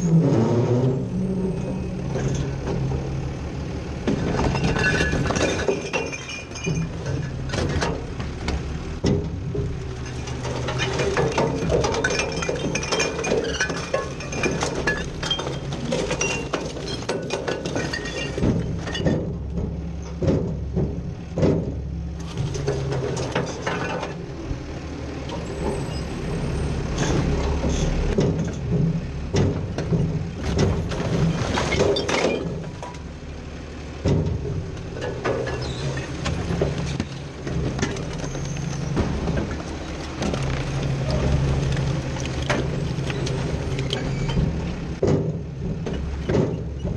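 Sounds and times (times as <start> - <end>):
garbage truck engine hum: 0.0 - 46.9
recyclables clattering: 2.0 - 46.9.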